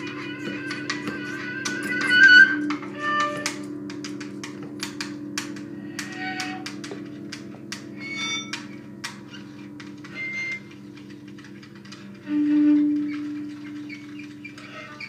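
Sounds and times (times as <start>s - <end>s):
bass guitar low drone: 0.0s - 14.7s.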